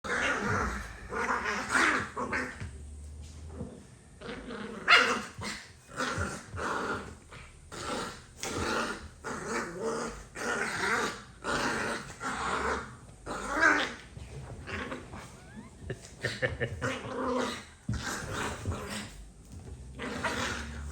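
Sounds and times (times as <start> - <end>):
puppies play-growling: 0.0 - 20.9.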